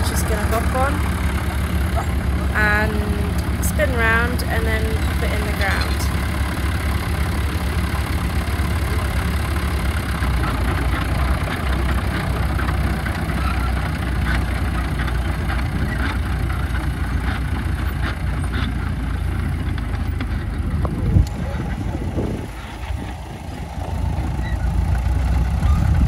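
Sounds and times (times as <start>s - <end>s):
crawler tractor engine running: 0.0s - 26.0s.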